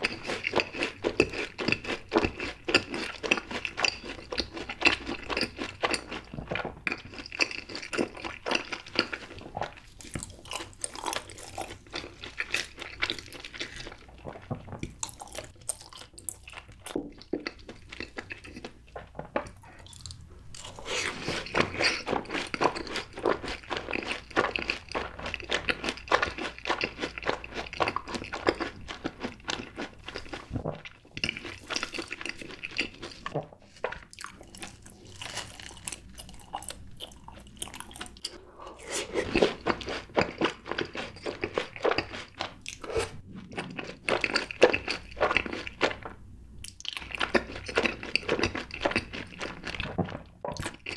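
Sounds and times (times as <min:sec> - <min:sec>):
crunching and chewing fried food: 0:00.0 - 0:50.9.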